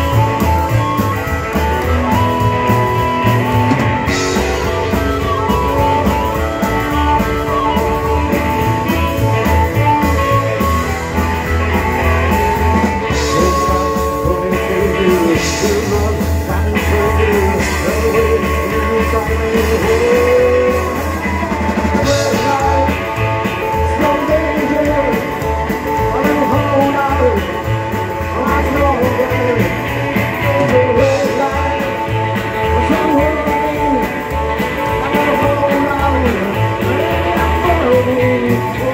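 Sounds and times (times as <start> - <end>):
harmonica: 0.0 - 38.9
rock and roll band playing: 0.0 - 38.9.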